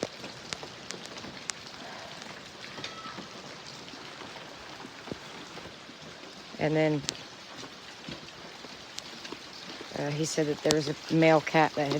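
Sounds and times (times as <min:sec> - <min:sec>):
sharp ticks of raindrops: 0:00.0 - 0:11.9
torrential rain: 0:00.0 - 0:11.9.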